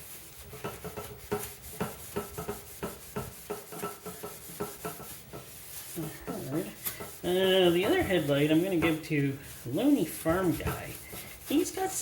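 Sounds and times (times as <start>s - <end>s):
pad scrubbing plastic: 0.0s - 12.0s.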